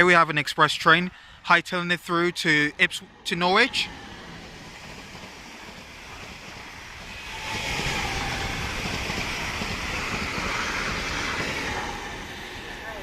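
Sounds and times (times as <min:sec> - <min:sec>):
train passing at speed: 0:00.9 - 0:13.0.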